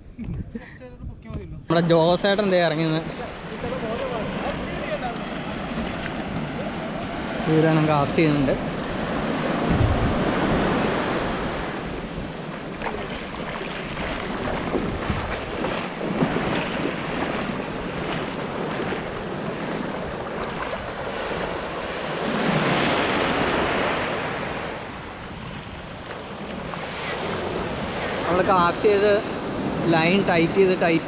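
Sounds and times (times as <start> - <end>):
wind buffeting microphone: 0.0 - 31.0
sea surf washing up beach: 1.7 - 31.0.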